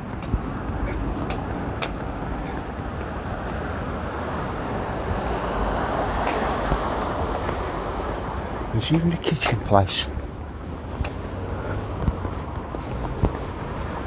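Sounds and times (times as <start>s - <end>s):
road traffic noise: 0.0s - 14.0s
vehicle passing: 0.0s - 14.0s.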